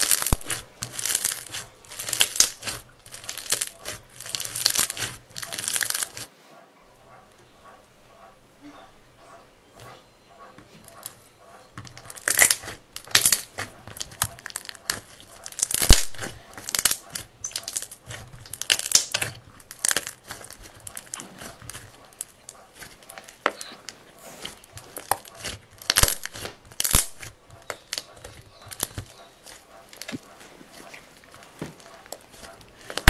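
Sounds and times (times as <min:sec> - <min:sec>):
slime crackling and tearing: 0:00.0 - 0:06.3, 0:11.9 - 0:30.2, 0:30.8 - 0:33.0.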